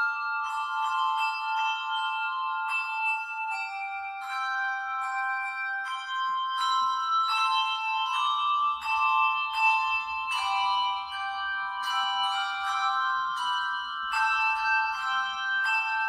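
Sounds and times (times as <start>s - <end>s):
handbell choir playing a hymn: 0.0s - 16.0s.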